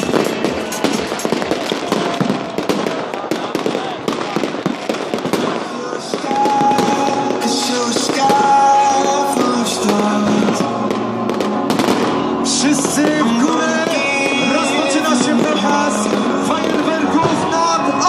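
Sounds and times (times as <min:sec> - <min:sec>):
music with long held notes: 0:00.0 - 0:03.8, 0:04.4 - 0:18.0
fireworks bangs and crackles: 0:00.0 - 0:18.0.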